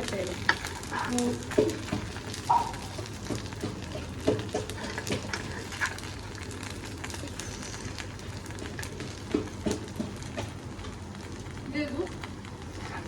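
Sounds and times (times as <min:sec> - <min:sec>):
utensil clicking in a pan: 0:00.0 - 0:11.5
food sizzling: 0:00.0 - 0:13.0.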